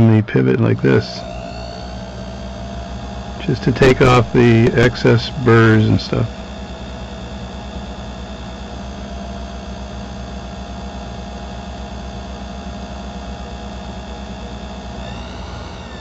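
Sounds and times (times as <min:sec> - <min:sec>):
lathe humming with low pulsing: 0:00.0 - 0:16.0.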